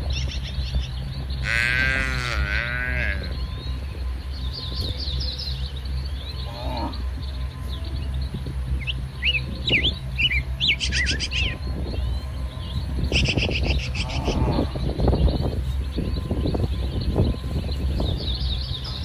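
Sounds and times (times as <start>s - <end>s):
birds chirping and trilling: 0.0s - 19.0s
low rumble: 0.0s - 19.0s.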